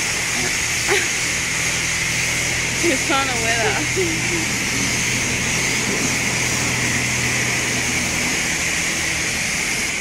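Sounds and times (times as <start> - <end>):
low motor hum: 0.0 - 10.0
pressure washer spraying water: 0.0 - 10.0.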